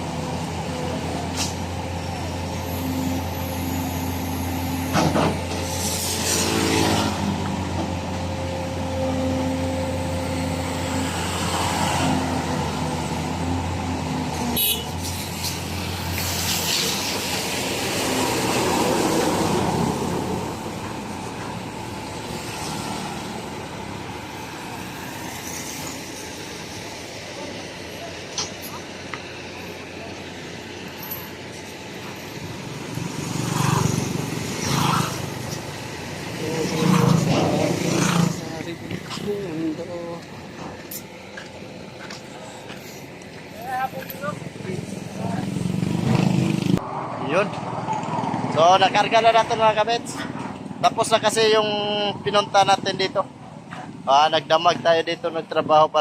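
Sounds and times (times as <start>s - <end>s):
diesel machinery running: 0.0s - 46.9s.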